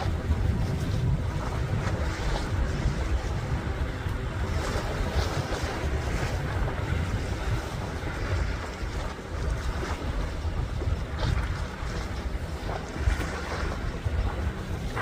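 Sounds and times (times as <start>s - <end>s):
sea wash: 0.0s - 15.0s
wind buffeting microphone: 0.0s - 15.0s.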